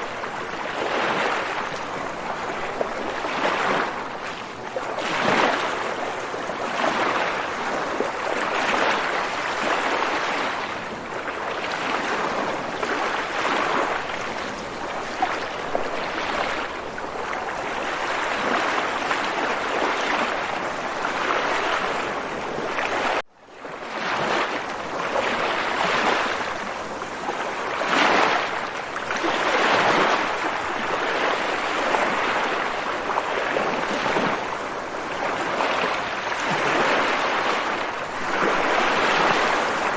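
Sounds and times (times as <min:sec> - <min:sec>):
water waves washing: 0:00.0 - 0:23.2, 0:23.9 - 0:39.9.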